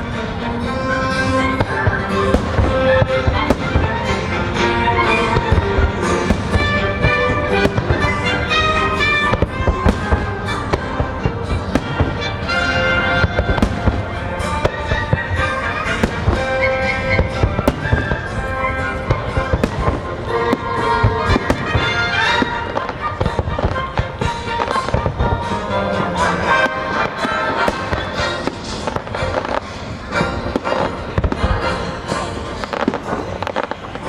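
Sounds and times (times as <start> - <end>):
fireworks bursting: 0.0 - 34.0
fireworks show music: 0.0 - 34.0.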